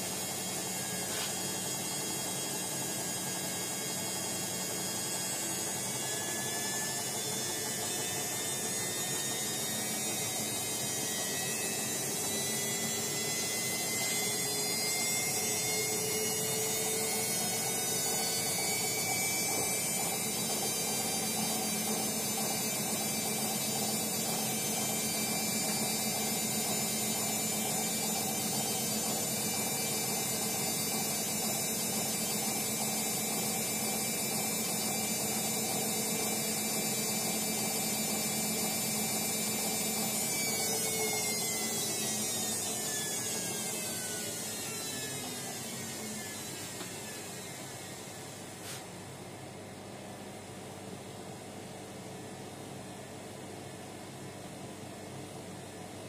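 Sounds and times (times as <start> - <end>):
washing machine drum spinning: 0.0 - 48.5.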